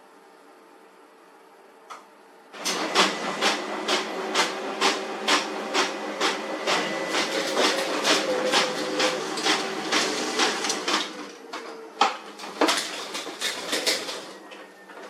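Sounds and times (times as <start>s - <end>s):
laser printer running: 2.6s - 15.0s.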